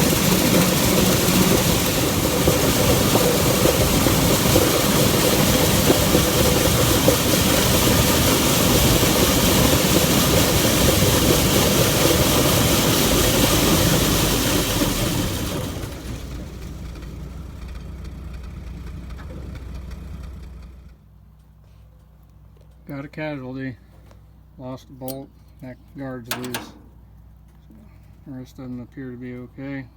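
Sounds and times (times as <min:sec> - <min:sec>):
combine harvester running: 0:00.0 - 0:24.5, 0:25.8 - 0:29.6.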